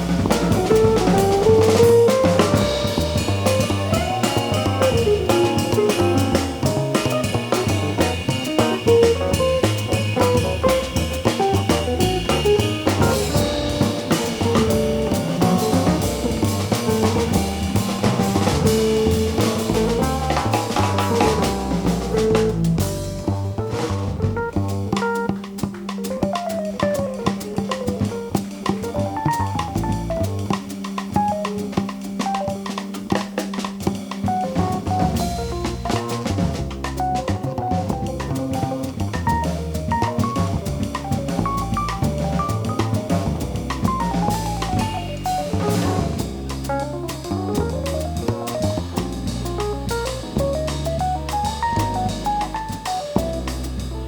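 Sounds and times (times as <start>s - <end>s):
cymbal and snare drumming: 0.0s - 54.0s
jazz combo playing: 0.0s - 54.0s.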